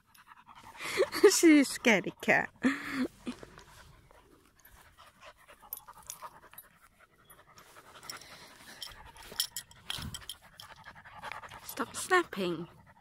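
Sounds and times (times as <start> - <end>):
dogs panting: 0.0 - 13.0.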